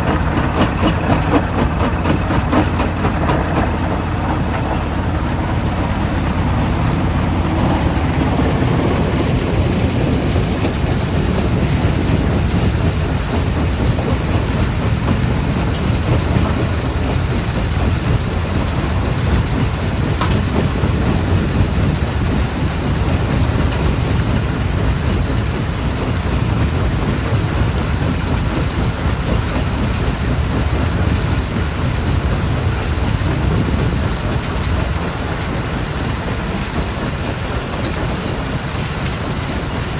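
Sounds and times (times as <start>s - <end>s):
heavy machinery rumble: 0.0s - 39.9s.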